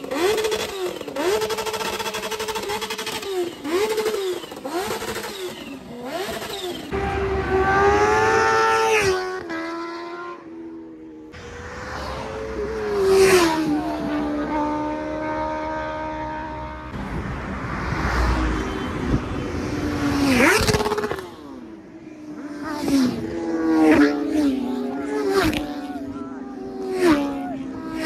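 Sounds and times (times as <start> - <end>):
engine revving: 0.0 - 10.5, 11.2 - 26.0.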